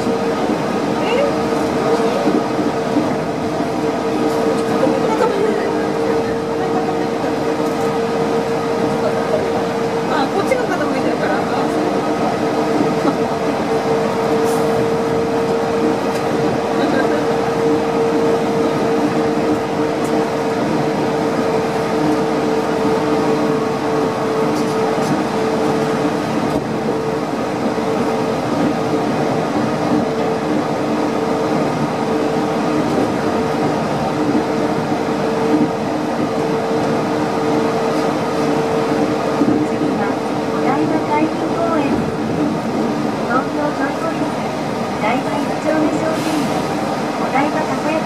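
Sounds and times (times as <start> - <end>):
train rumbling and humming: 0.0 - 48.0.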